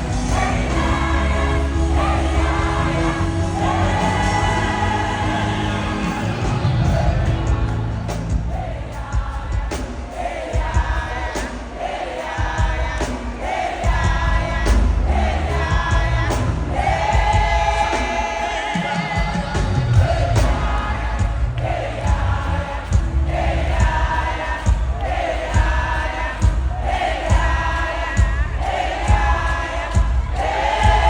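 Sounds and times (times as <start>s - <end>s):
band with drums and bass: 0.0s - 31.0s
choir singing: 0.0s - 31.0s.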